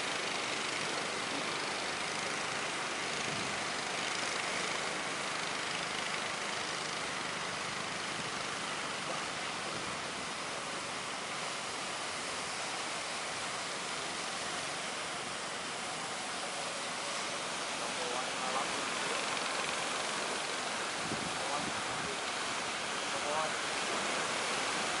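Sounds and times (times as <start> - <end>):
sea water rushing: 0.0 - 25.0.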